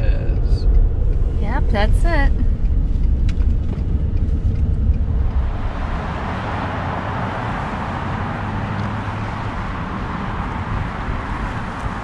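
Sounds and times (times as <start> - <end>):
road rumble inside truck: 0.0 - 12.0.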